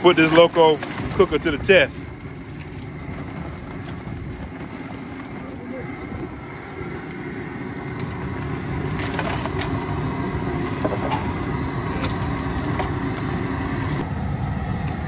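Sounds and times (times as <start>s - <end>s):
crackling clatters: 0.0s - 14.0s
gas burner rushing: 0.0s - 15.0s.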